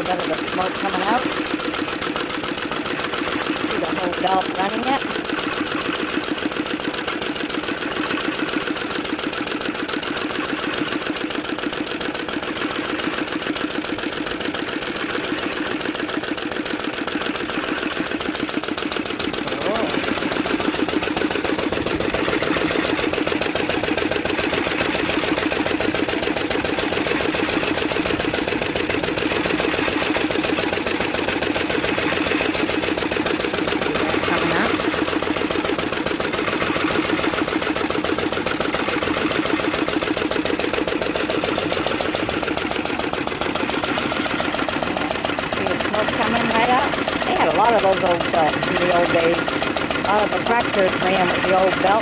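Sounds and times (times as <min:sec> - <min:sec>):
engine and pump gears clattering: 0:00.0 - 0:52.0.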